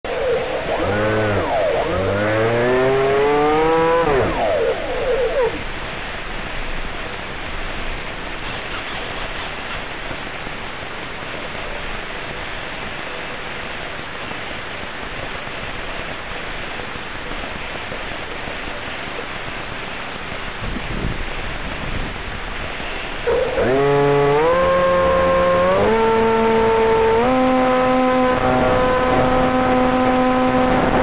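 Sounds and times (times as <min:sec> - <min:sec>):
steady hiss: 0:00.1 - 0:31.0.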